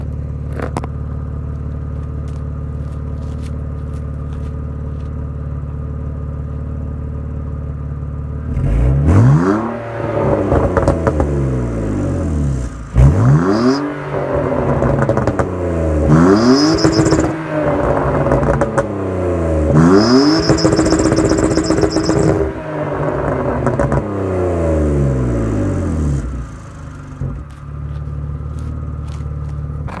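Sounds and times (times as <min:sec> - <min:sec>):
exhaust crackles and pops: 0:00.0 - 0:06.7, 0:10.1 - 0:30.0
car engine idling and revving: 0:00.0 - 0:30.0.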